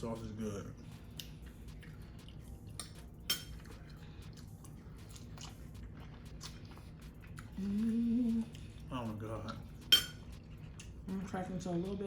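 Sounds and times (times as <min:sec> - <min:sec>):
person chewing food: 0:00.2 - 0:11.2.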